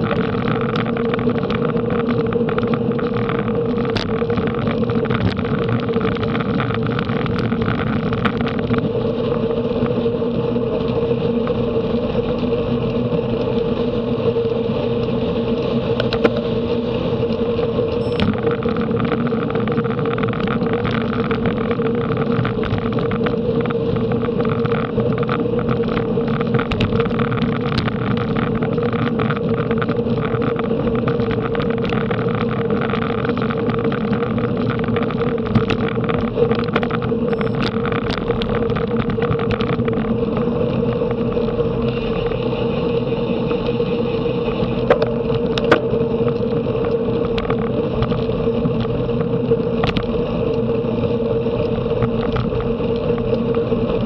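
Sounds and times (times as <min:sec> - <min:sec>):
bicycle tyres humming on tarmac: 0:00.0 - 0:54.0
wind rushing over microphone: 0:00.0 - 0:54.0.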